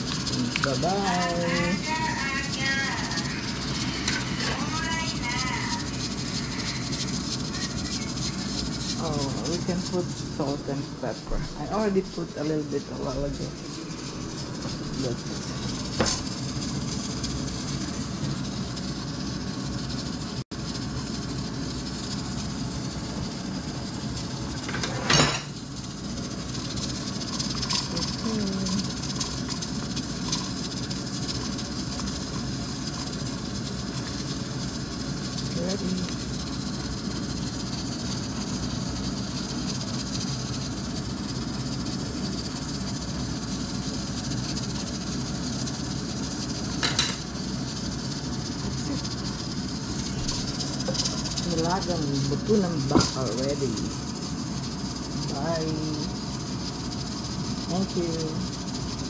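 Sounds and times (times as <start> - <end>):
broth simmering on gas burner: 0.0 - 59.0.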